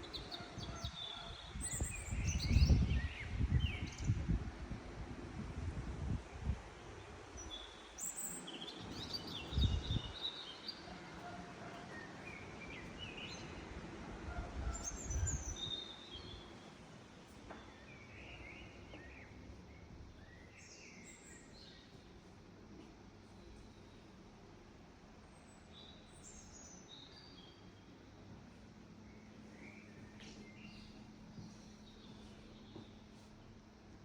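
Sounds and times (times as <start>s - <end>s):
steady background noise: 0.0s - 34.0s.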